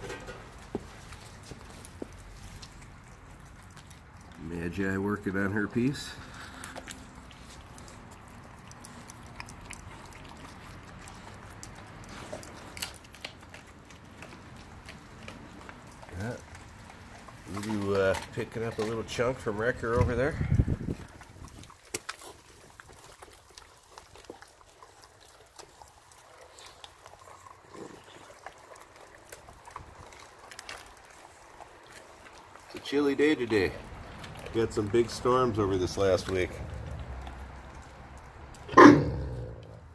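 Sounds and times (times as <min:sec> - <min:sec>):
puppy crunching bones: 0:00.0 - 0:39.9.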